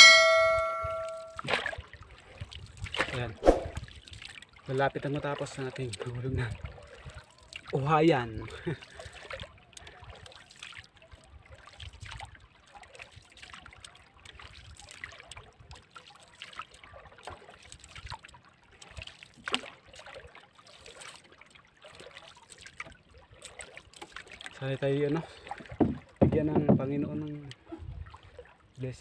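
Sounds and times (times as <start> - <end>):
water lapping against boat hull: 0.1 - 29.0.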